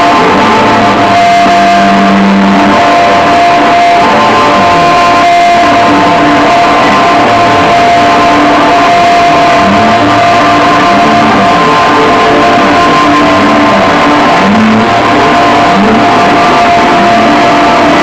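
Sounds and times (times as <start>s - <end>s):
electric guitar: 0.0s - 18.0s.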